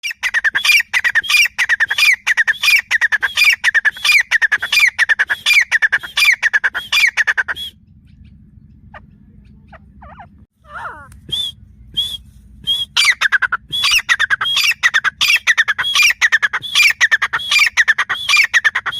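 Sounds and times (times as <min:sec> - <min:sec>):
francolin calling: 0:00.0 - 0:18.9.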